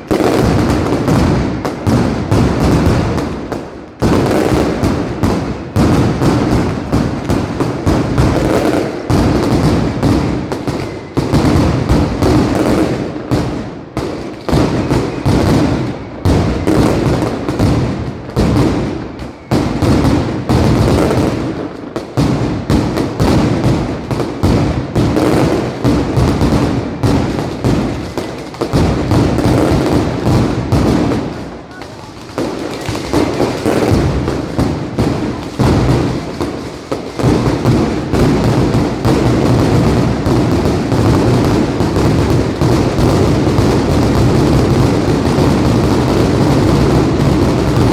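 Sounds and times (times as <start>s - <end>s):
firecracker bangs: 0.0s - 47.9s.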